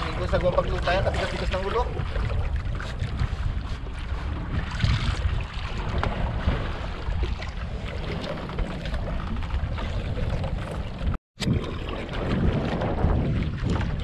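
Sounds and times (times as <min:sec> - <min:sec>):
water sloshing around boat: 0:00.0 - 0:14.0
wind buffeting microphone: 0:00.0 - 0:14.0.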